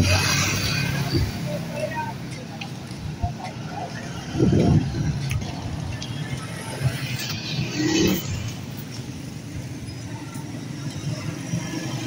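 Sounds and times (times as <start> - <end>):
vehicles passing on street: 0.0 - 12.0.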